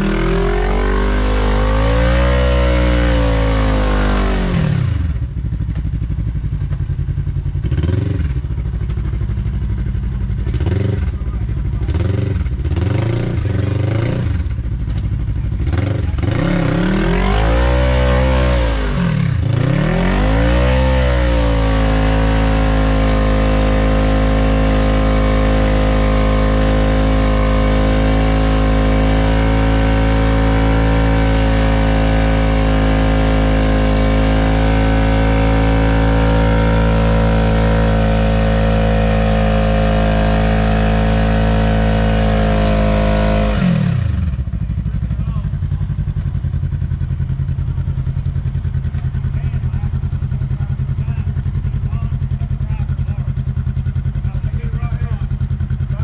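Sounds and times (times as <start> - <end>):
utv engine revving: 0.0 - 56.0.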